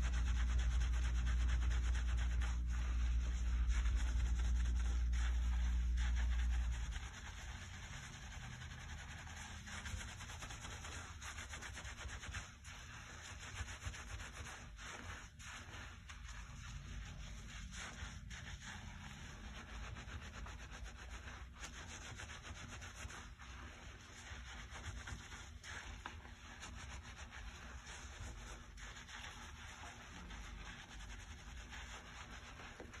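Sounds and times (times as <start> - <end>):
fingers scrubbing lathered hair: 0.0 - 33.0.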